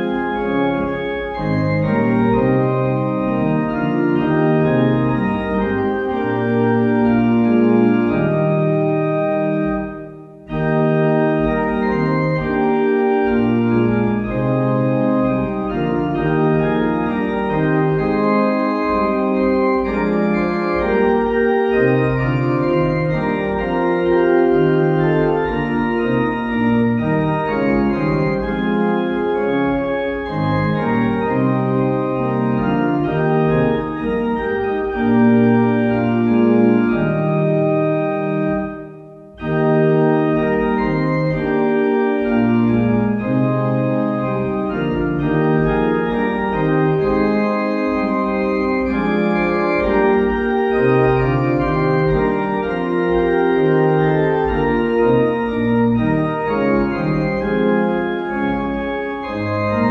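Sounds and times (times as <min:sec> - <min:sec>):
organ playing a hymn: 0:00.0 - 0:59.9.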